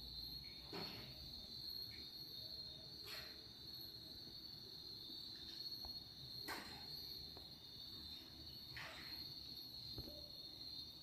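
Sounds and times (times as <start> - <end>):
high-pitched insect-like trill: 0.0 - 11.0.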